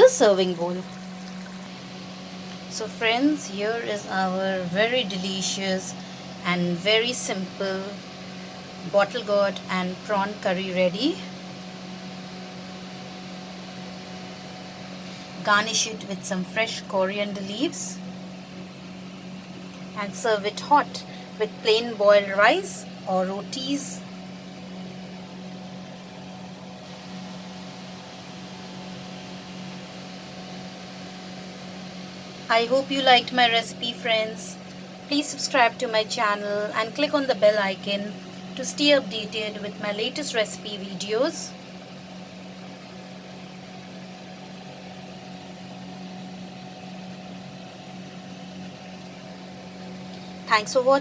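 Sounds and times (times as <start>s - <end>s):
low hum with light hiss: 0.0s - 51.0s.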